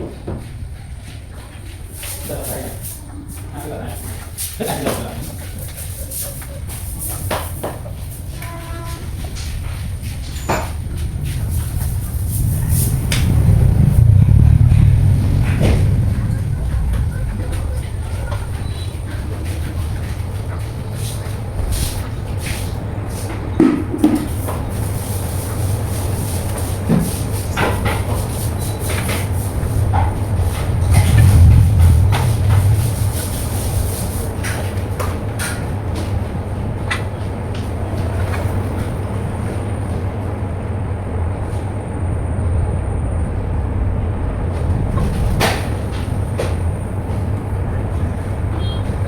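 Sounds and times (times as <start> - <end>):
wet vacuum cleaner droning: 3.6 - 49.0.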